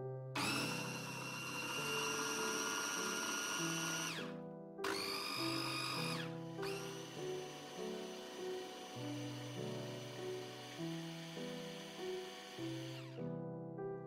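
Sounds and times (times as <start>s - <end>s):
food processor motor: 0.4s - 13.2s.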